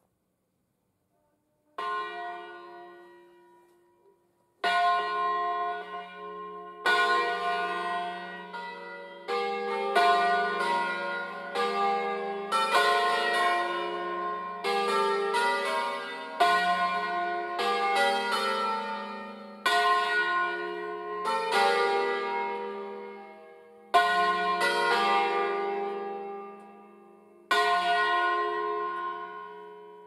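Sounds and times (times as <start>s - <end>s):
church bells pealing: 1.8s - 30.0s.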